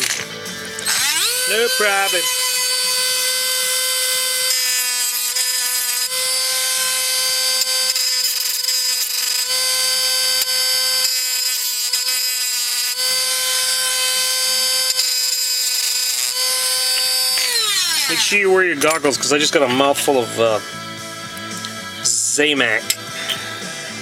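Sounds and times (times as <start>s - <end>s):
rotary grinder whining: 0.0s - 23.9s.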